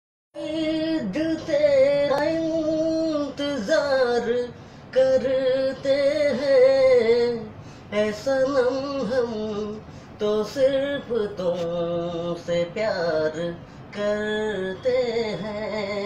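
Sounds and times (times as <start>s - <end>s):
man singing unaccompanied: 0.4s - 16.0s.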